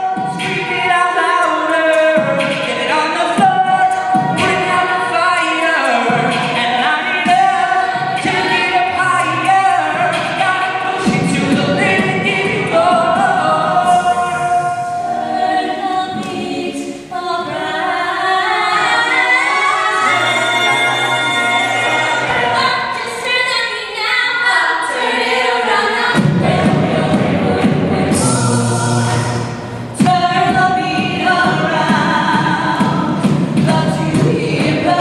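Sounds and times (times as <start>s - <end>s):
a cappella group singing harmony: 0.0s - 35.0s.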